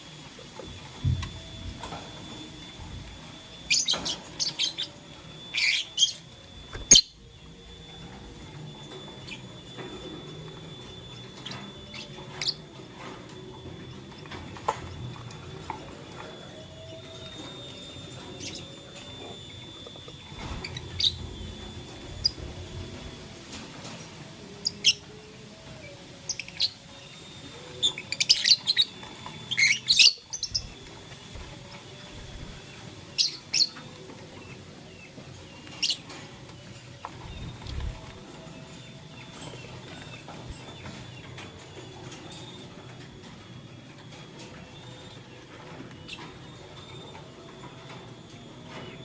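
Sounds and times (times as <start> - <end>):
lovebirds chirping: 0.6 - 23.3, 24.5 - 43.3.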